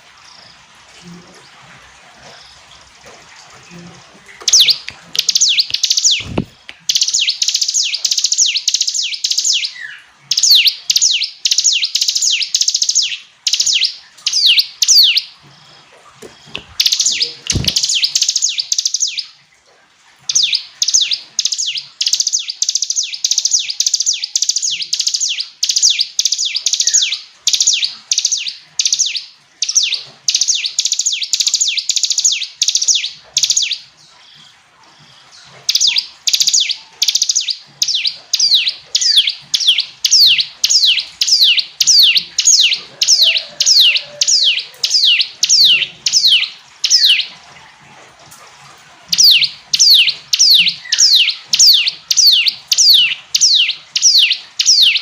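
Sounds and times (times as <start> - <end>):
bird singing shrill notes: 4.5 - 15.3, 16.8 - 19.3, 20.3 - 33.8, 35.7 - 47.3, 49.1 - 55.0.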